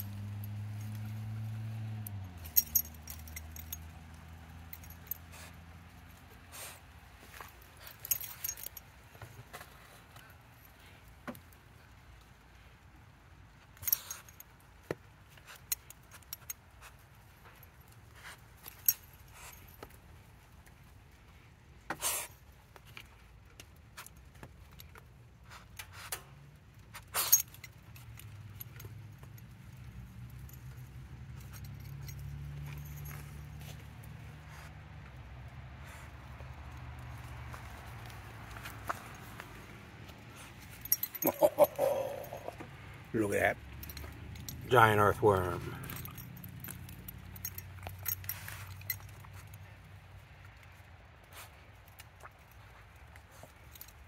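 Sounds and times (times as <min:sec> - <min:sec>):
dog collar tags jingling: 0:00.0 - 0:11.0, 0:11.8 - 0:21.4, 0:22.8 - 0:34.7, 0:35.4 - 0:54.0.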